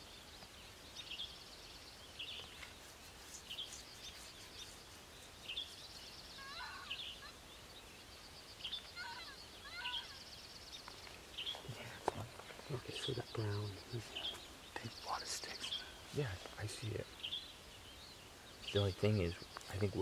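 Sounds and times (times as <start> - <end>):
background hiss: 0.0 - 20.0
songbird chirps and trills: 0.0 - 20.0.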